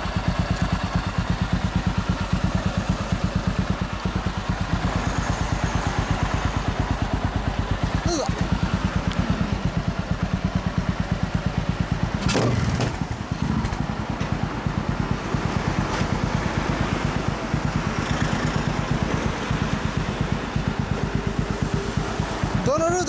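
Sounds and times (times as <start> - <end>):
motorcycle exhaust idling: 0.0 - 23.0.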